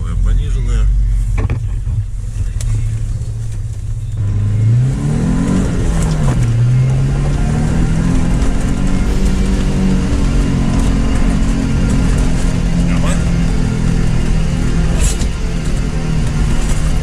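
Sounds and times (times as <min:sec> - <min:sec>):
suv engine revving: 0:00.0 - 0:17.0.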